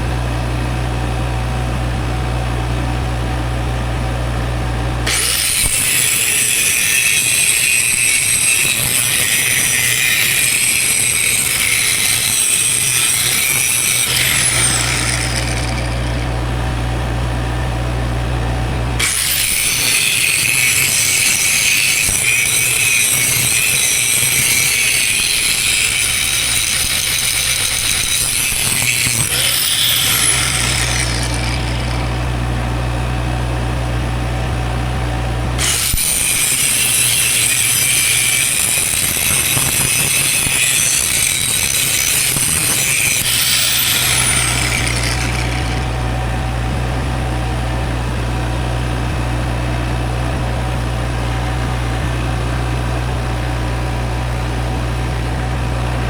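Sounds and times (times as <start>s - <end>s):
steady low engine hum: 0.0s - 41.3s, 42.3s - 56.0s
angle grinder cutting steel: 4.9s - 56.0s.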